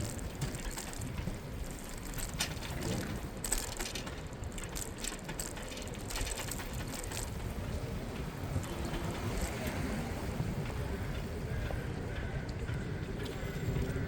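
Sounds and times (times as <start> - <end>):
bicycle freewheel ticking: 0.0 - 11.6
tyres and wind rumble: 0.0 - 14.0.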